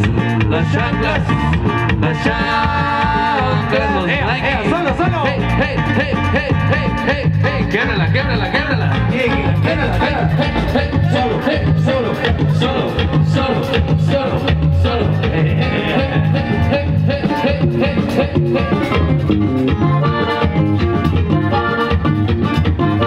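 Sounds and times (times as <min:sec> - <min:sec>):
latin dance band playing: 0:00.0 - 0:23.0.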